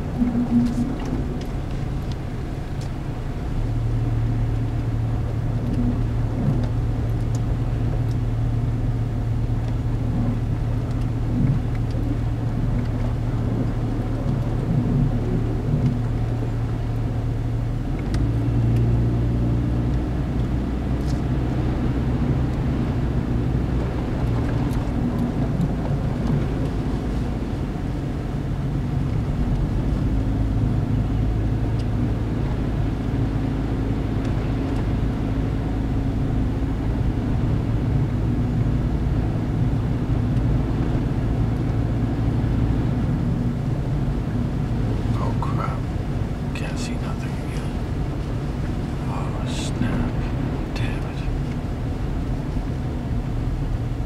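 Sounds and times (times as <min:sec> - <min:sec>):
car engine and tyres droning: 0:00.0 - 0:54.0.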